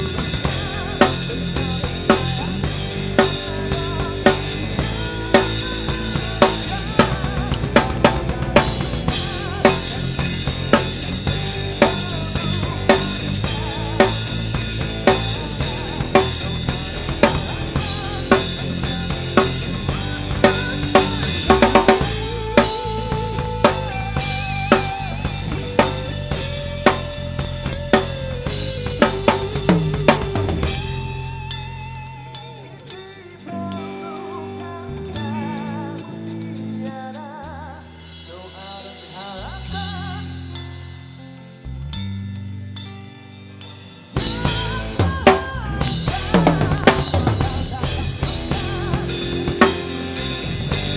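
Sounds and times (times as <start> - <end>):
drum kit playing a beat: 0.0 - 50.9
recorded song with bass: 0.0 - 50.9.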